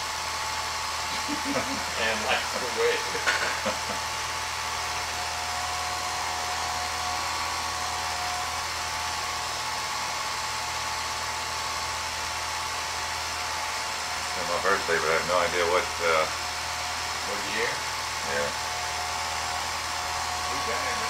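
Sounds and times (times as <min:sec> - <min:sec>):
film projector motor whirring: 0:00.0 - 0:21.0.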